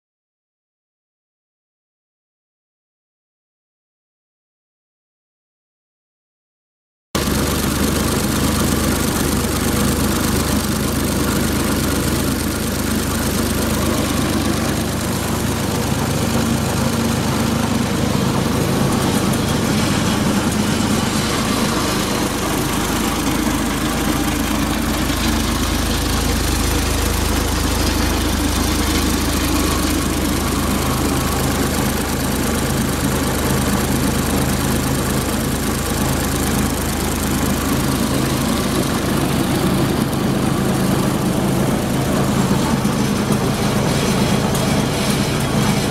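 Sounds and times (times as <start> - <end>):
diesel engine running steadily: 7.2 - 45.9.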